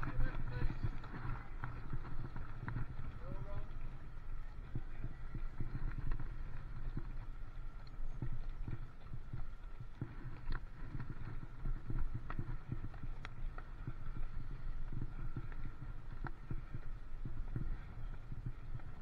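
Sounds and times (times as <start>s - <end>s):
bicycle rattles and knocks: 0.0s - 19.0s
bicycle rumble on rough lane: 0.0s - 19.0s.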